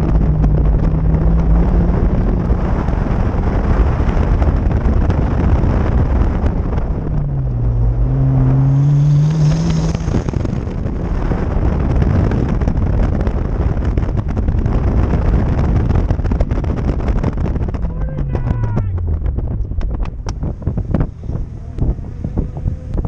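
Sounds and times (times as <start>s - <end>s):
car engine accelerating hard: 0.0s - 23.0s
wind buffeting microphone: 0.0s - 23.0s.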